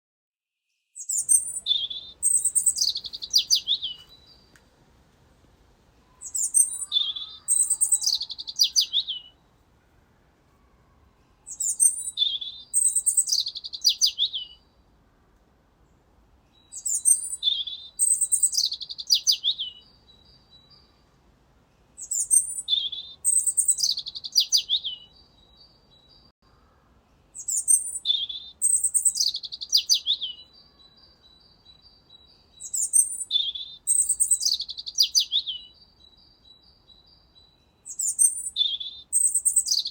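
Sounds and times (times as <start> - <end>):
bird singing high song: 0.7 - 4.6, 5.9 - 9.8, 10.5 - 14.8, 15.8 - 39.9.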